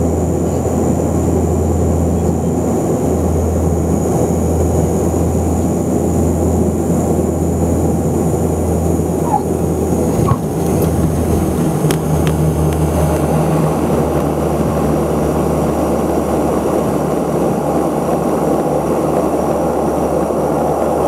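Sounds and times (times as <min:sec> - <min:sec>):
low propeller drone: 0:00.0 - 0:21.0.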